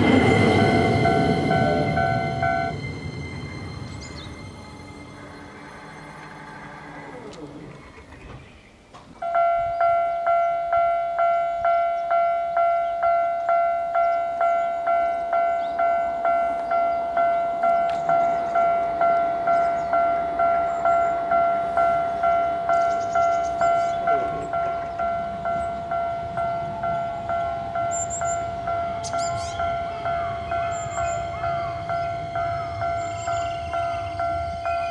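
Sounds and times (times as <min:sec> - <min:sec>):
two-tone level crossing bell: 0:00.0 - 0:02.9, 0:09.2 - 0:34.9.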